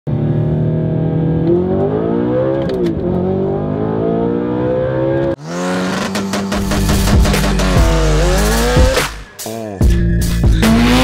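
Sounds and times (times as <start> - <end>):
car engine accelerating: 0.1 - 9.2, 9.9 - 11.0.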